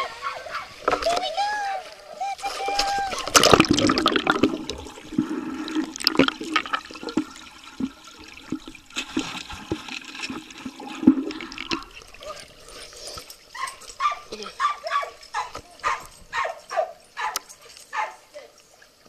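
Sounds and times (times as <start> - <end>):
water gurgling and sloshing: 0.0 - 19.0.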